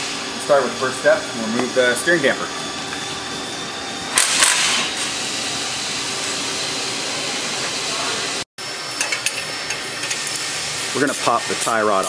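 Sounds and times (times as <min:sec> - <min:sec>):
shop background hiss: 0:00.0 - 0:12.0.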